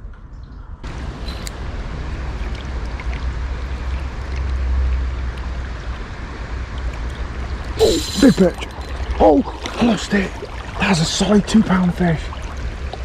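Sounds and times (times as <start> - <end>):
water rushing over a weir: 0.9 - 13.0.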